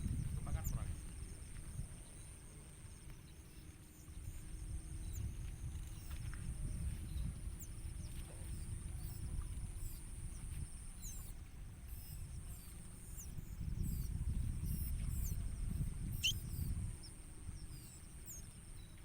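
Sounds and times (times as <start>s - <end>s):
small birds chirping: 0.0s - 19.0s
wind rumble on microphone: 0.0s - 19.0s.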